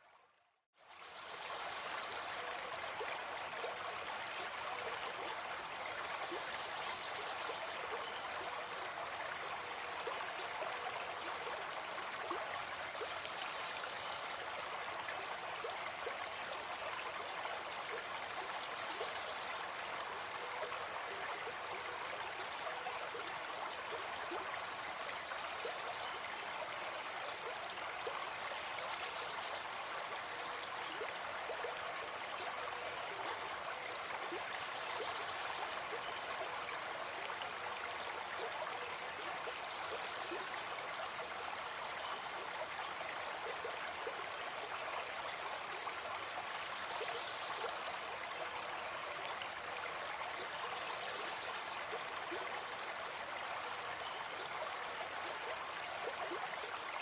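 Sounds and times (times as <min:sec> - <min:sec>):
stream flowing: 0:00.8 - 0:57.0.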